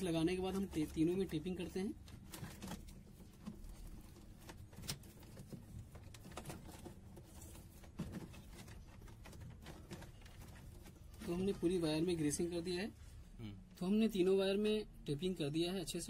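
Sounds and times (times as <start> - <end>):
faint rustling of tape: 0.0 - 13.8.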